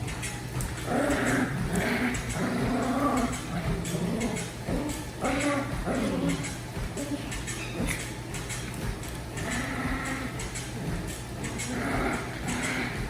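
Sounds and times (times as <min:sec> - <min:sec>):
dog vocalizing playfully: 0:00.7 - 0:08.6, 0:09.3 - 0:13.0.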